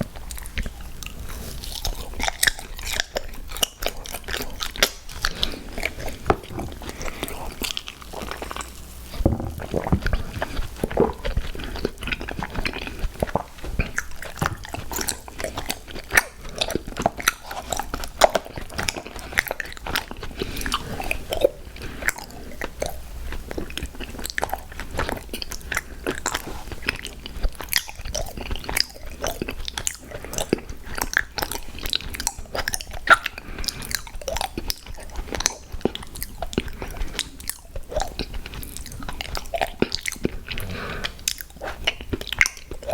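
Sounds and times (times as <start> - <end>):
person chewing and crunching sweets: 0.0 - 42.9.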